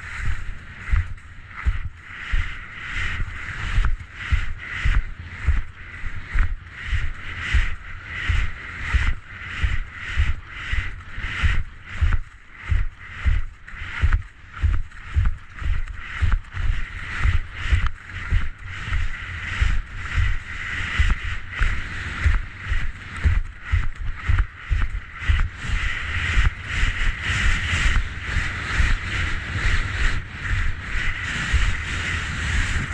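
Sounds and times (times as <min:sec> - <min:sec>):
skis scraping snow: 0:00.0 - 0:32.9
skis thudding on bumps: 0:00.0 - 0:32.9.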